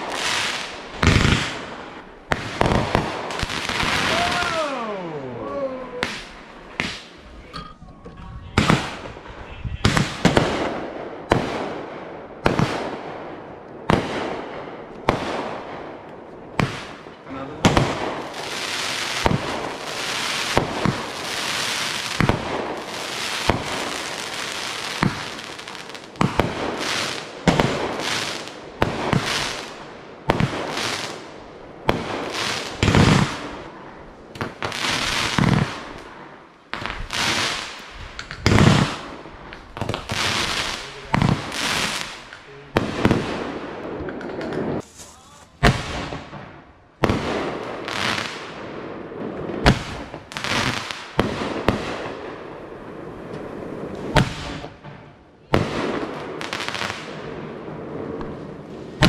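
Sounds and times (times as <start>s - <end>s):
fireworks bangs: 0.0s - 59.0s
fireworks crackle: 0.0s - 59.0s.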